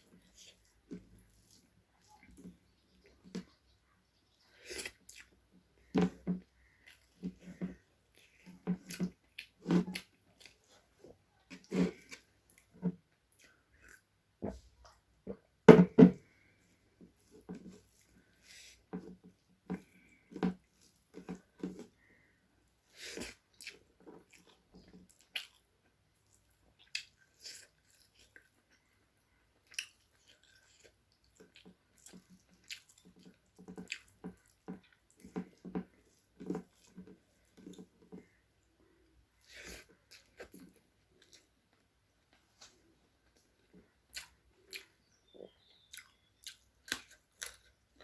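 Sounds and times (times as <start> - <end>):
person chewing and eating: 4.4 - 15.5, 16.2 - 48.0.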